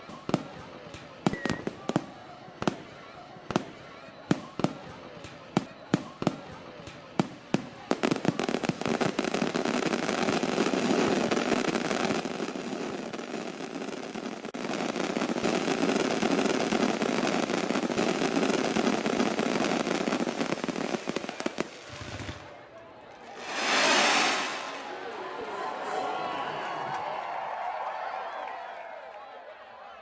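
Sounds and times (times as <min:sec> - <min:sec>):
fireworks crackling and popping: 0:00.0 - 0:22.5, 0:23.3 - 0:25.2.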